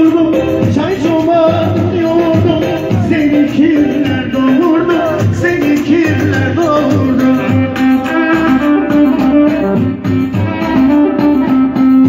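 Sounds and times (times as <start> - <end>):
keyboard dance music: 0.0 - 12.0.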